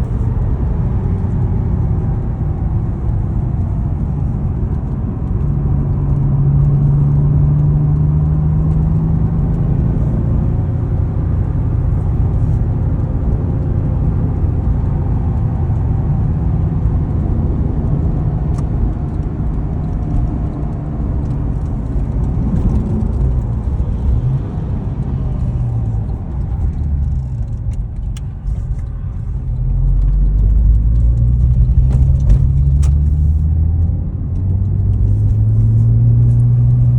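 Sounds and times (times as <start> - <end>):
car engine rumbling: 0.0 - 36.9.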